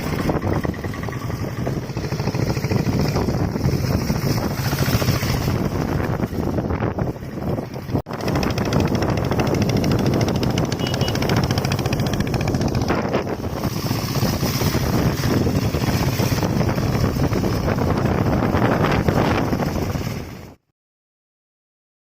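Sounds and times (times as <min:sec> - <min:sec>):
motorcycle diesel engine running: 0:00.0 - 0:20.6.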